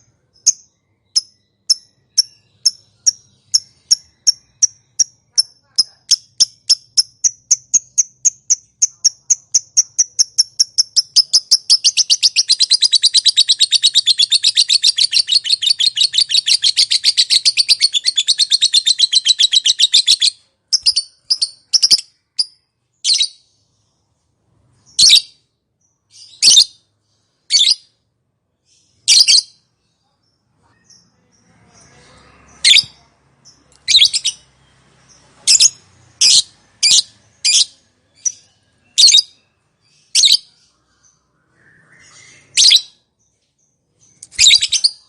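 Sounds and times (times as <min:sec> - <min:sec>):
lovebird chirping and trilling: 0:00.0 - 0:23.9, 0:24.7 - 0:28.0, 0:28.7 - 0:43.1, 0:44.0 - 0:45.0.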